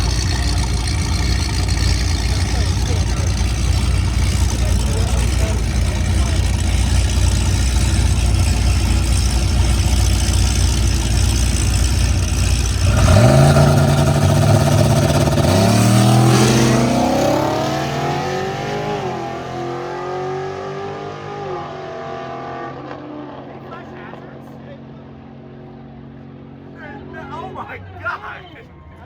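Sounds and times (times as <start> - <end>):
car engine accelerating: 0.0 - 27.3.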